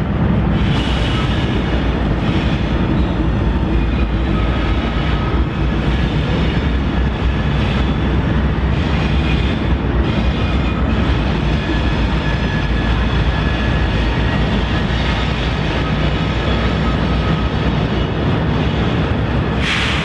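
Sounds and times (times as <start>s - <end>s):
locomotive engine rumble: 0.0s - 20.0s.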